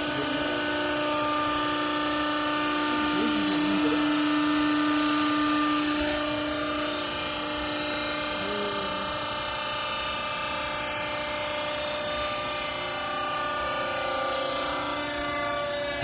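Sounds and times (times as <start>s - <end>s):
hydraulic motor and pump whine: 0.0s - 16.0s.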